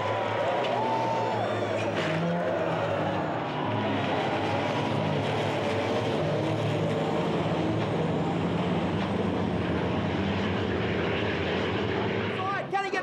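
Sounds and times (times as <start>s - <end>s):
truck engines droning: 0.0s - 13.0s.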